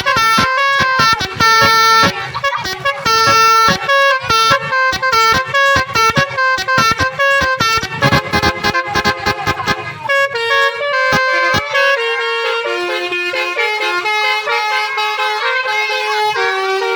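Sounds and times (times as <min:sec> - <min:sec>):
multi-tone air horn playing a tune: 0:00.0 - 0:16.9.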